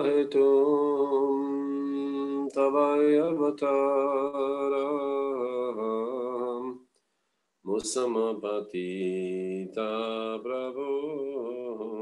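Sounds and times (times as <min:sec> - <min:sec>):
man chanting a prayer: 0:00.0 - 0:06.8, 0:07.7 - 0:12.0.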